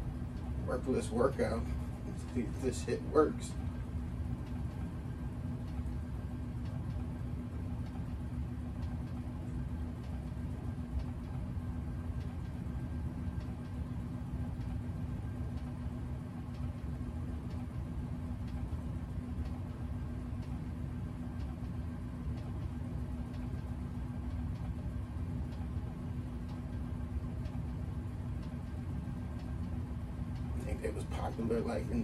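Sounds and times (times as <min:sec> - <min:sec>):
motor hum: 0:00.0 - 0:32.0.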